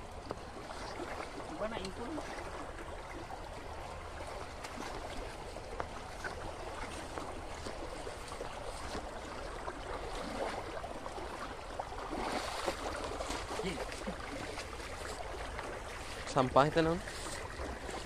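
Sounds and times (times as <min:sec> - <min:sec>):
shallow water running: 0:00.0 - 0:18.0.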